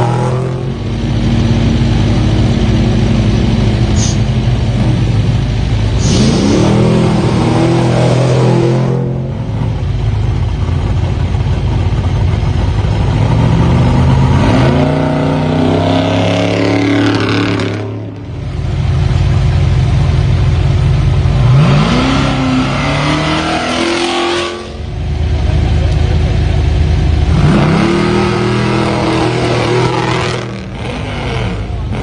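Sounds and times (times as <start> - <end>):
low engine rumble: 0.0 - 23.7, 24.5 - 32.0
truck engines revving hard: 0.0 - 32.0.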